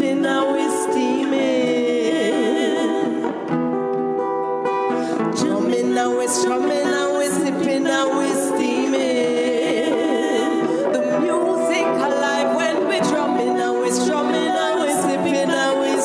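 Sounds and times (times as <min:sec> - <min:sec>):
woman singing reggae song: 0:00.0 - 0:03.6, 0:04.9 - 0:16.0
small acoustic band: 0:00.0 - 0:16.0.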